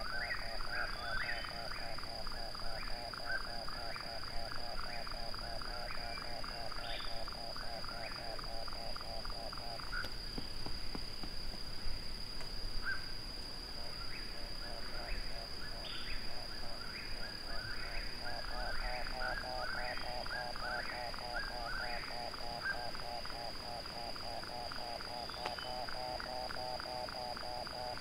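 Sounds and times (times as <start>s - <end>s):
frogs calling: 0.0s - 28.0s.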